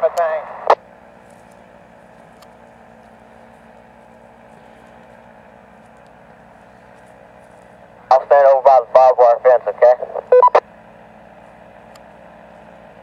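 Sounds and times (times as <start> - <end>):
faint engine drone: 0.0 - 13.0.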